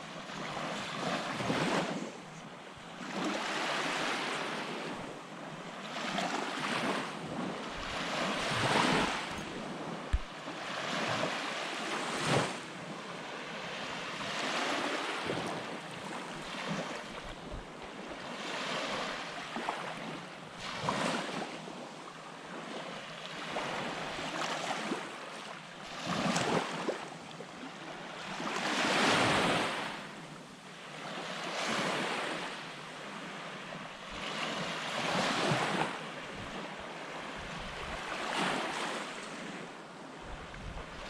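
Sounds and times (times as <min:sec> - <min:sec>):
small waves breaking on beach: 0:00.0 - 0:41.0.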